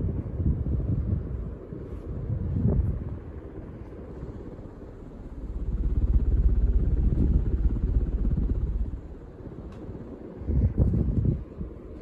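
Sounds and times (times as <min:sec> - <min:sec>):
ceiling fan wind buffeting microphone: 0:00.0 - 0:12.0.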